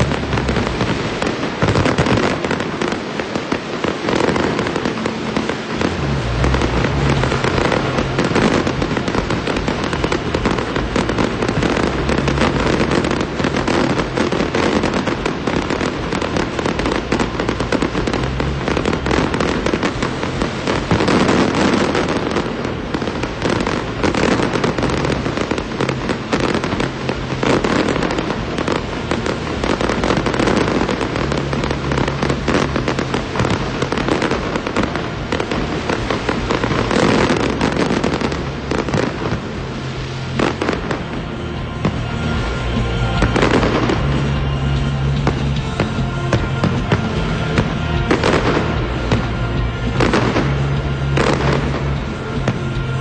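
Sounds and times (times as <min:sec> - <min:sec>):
fireworks crackling and popping: 0:00.0 - 0:53.0.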